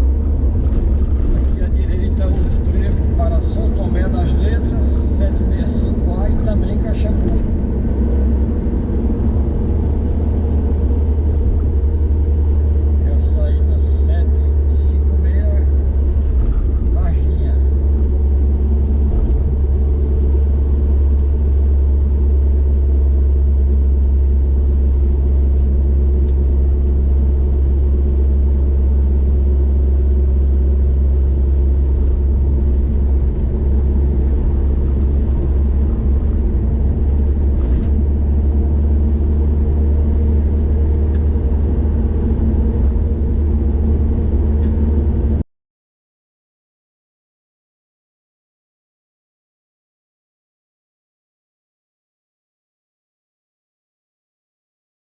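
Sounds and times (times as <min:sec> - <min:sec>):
car driving on highway rumble: 0:00.0 - 0:45.4.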